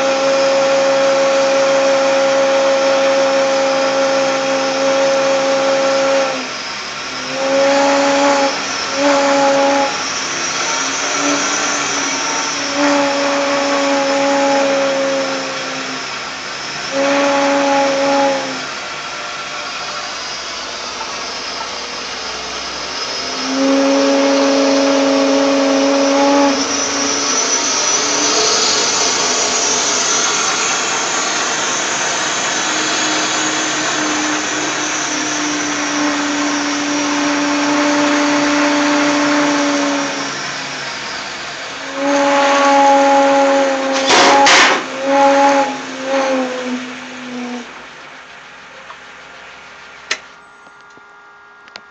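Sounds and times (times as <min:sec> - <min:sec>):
milling machine rush and hiss: 0:00.0 - 0:50.4.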